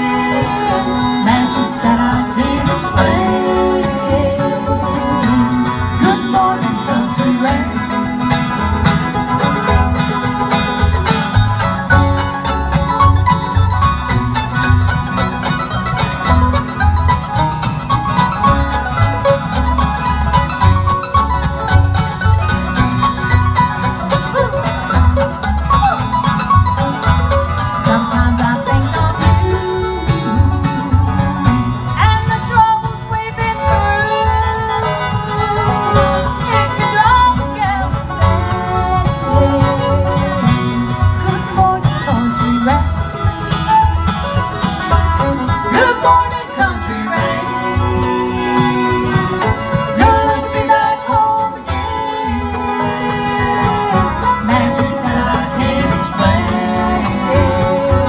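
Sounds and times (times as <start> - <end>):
bluegrass band playing: 0.0 - 58.0.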